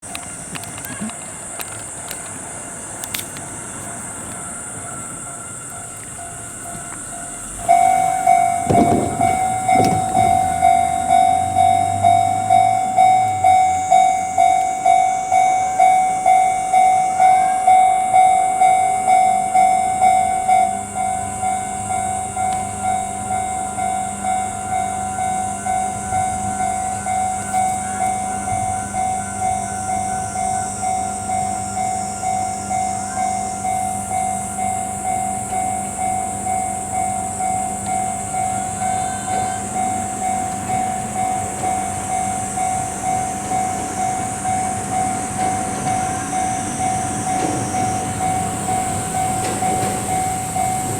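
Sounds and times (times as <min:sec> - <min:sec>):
level-crossing warning bell: 0:00.0 - 0:50.9
steady high hiss: 0:00.0 - 0:50.9.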